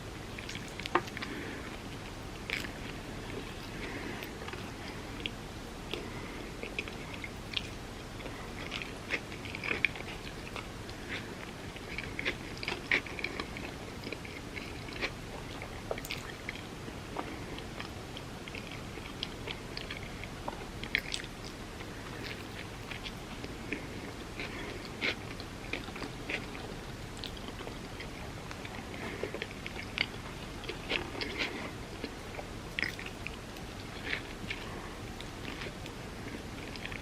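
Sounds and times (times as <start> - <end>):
person chewing: 0.3 - 37.0.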